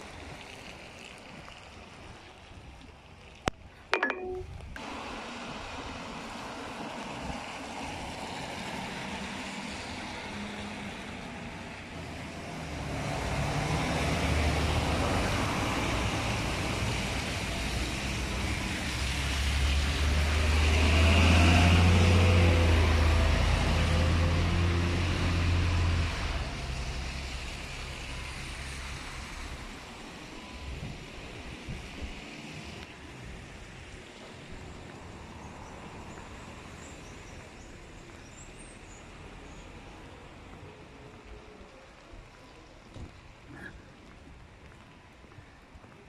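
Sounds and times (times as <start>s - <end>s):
cars passing on wet road: 0.0s - 3.6s, 4.8s - 46.0s.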